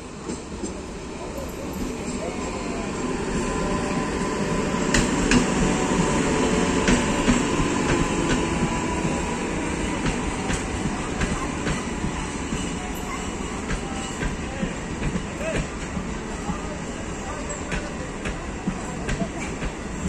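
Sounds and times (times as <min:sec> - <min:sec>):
train coaches rumbling: 0:00.0 - 0:20.0.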